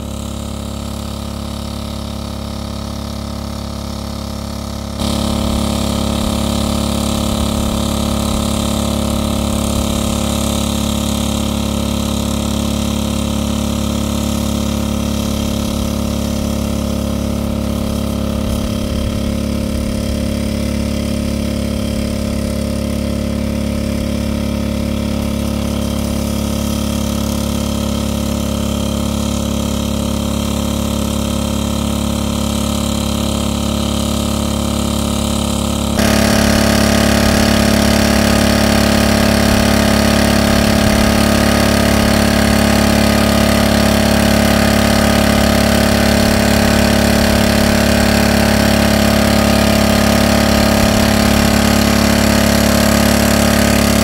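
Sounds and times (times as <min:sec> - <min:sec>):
engine-driven water pump running: 0:00.0 - 0:54.0.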